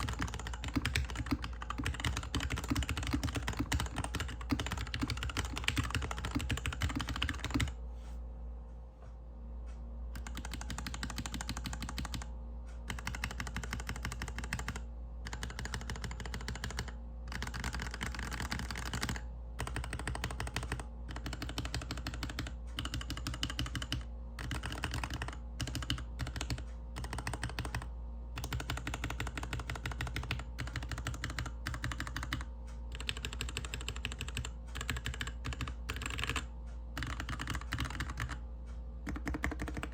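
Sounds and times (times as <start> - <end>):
mechanical keyboard typing: 0.0 - 7.8, 10.2 - 12.3, 12.9 - 38.4, 39.0 - 39.9.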